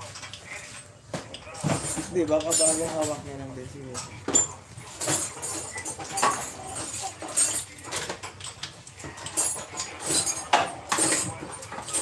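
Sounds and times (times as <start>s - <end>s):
hand tools clinking on metal: 0.0s - 3.4s, 4.0s - 12.0s.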